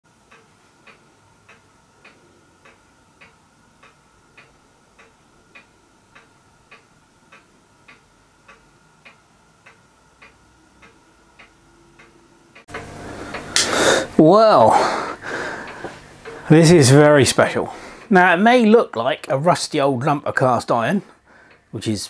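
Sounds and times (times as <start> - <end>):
clock ticking: 0.1 - 13.7, 14.3 - 22.0
faint high hum: 0.1 - 22.0.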